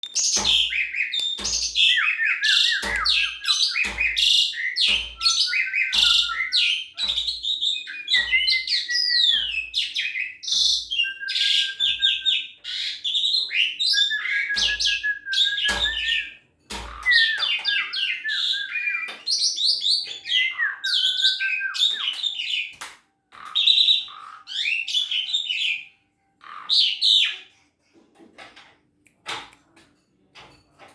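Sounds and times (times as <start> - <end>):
starling singing: 0.0 - 22.8, 23.4 - 27.5.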